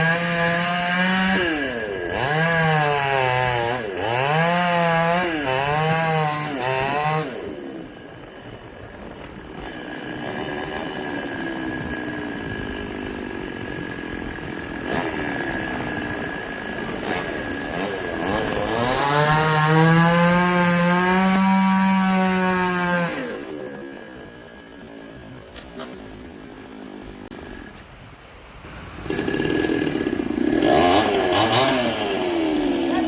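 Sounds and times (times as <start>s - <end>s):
chainsaw revving: 0.0s - 27.9s, 28.7s - 33.0s.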